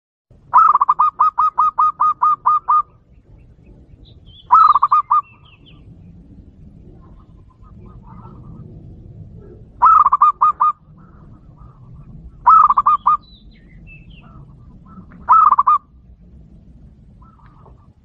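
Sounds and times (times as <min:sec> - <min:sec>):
dove cooing: 0:00.5 - 0:18.0.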